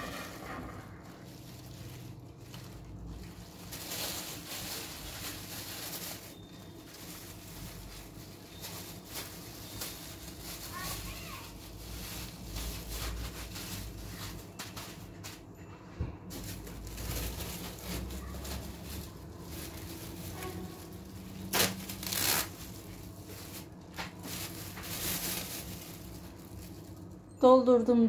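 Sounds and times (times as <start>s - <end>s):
plastic crackling: 0.0s - 15.5s, 16.3s - 27.3s
plastic bags rustling: 0.0s - 27.3s.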